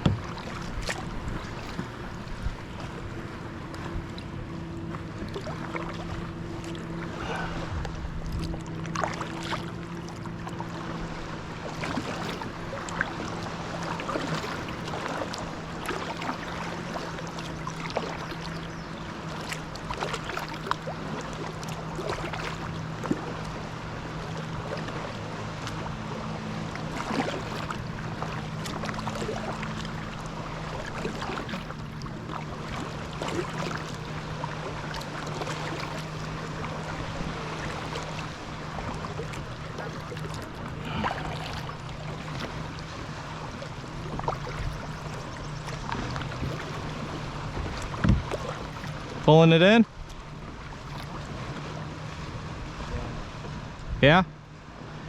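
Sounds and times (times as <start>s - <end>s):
water splashing around kayak hull: 0.0s - 55.0s.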